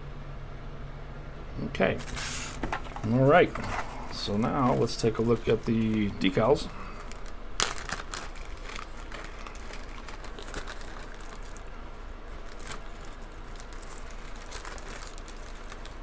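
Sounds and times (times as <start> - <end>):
plastic bag crinkling and rustling: 2.0 - 16.0.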